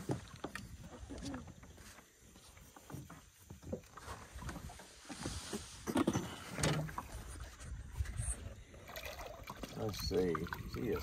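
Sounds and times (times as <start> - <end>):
water splashing against boat: 0.0 - 1.7, 2.6 - 11.0.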